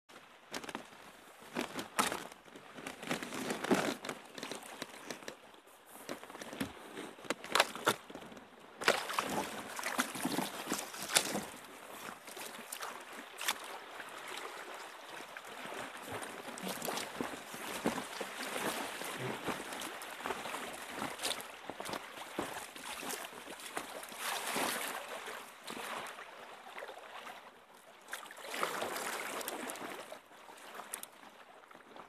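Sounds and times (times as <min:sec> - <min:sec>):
water sloshing around kayak: 0:00.1 - 0:32.0.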